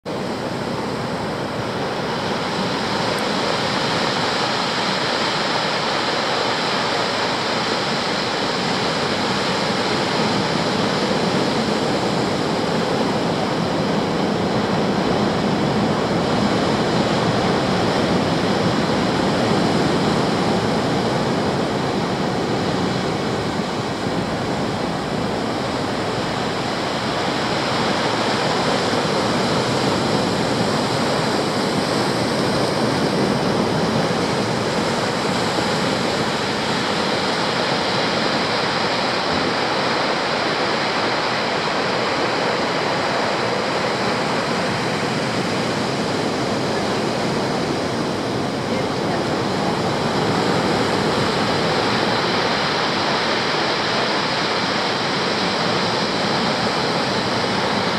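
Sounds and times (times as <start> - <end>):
surf breaking on rocky shore: 0.1 - 57.9.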